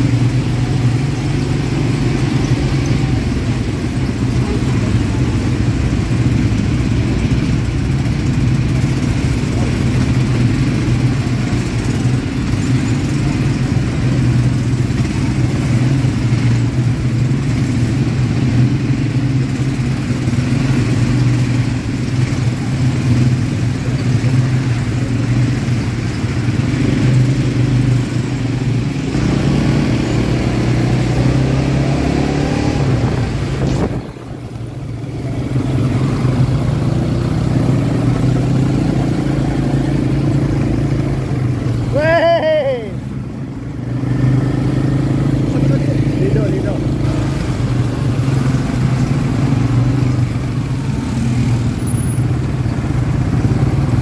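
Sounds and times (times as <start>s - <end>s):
quad bike engine droning: 0.0s - 54.0s.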